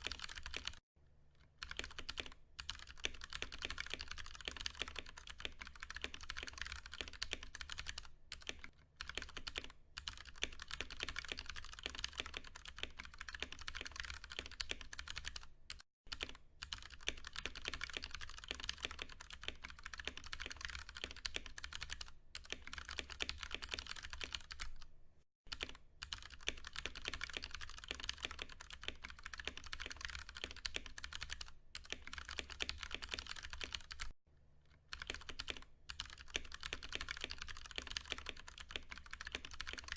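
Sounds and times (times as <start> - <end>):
fast typing on mechanical keyboard: 0.0 - 0.8, 1.6 - 24.9, 25.5 - 34.2, 34.9 - 39.9.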